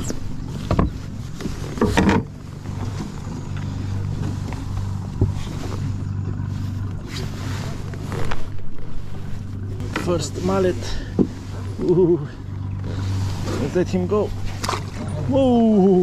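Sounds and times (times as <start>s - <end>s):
steady low hum: 0.0s - 16.0s
water and handling noise: 0.0s - 16.0s.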